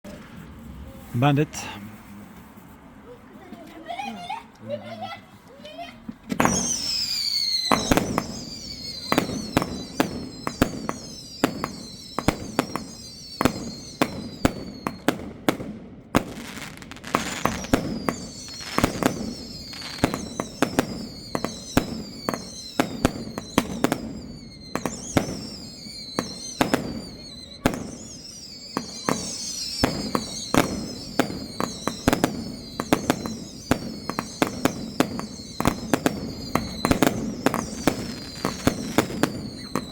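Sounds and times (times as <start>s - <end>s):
firework bangs: 6.2s - 39.9s
firework whistles falling in pitch: 6.3s - 15.3s, 16.2s - 39.9s.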